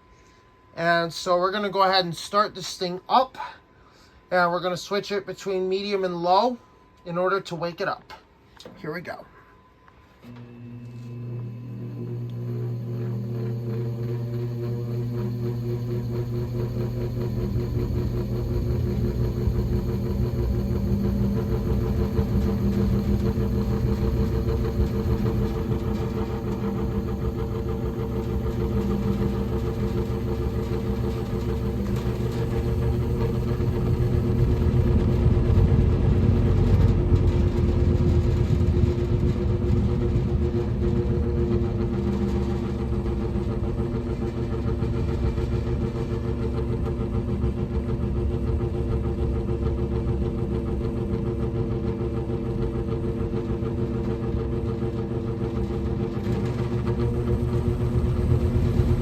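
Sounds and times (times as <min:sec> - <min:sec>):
box fan motor hum: 0:10.2 - 0:59.0.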